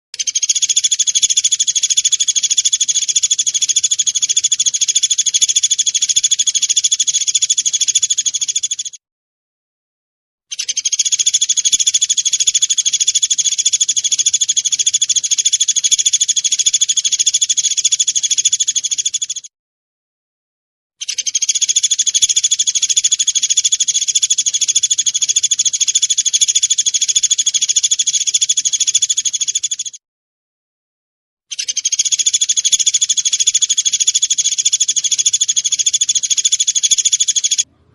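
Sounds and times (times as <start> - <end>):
woodpecker chattering call: 0.2 - 9.0, 10.5 - 19.5, 21.0 - 30.0, 31.5 - 37.7.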